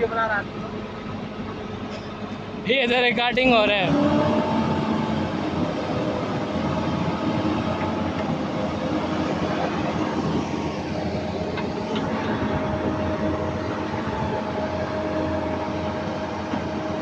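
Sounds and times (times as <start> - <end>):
excavator diesel engine rumble: 0.0 - 17.0
hydraulic pump whine: 1.6 - 17.0.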